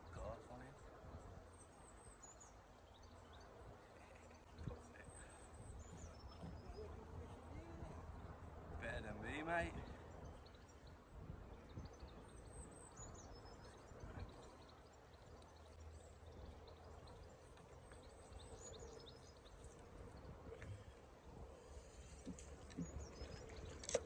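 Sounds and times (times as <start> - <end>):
faint bird chirps: 0.0 - 24.0
low wind rumble: 0.0 - 24.0.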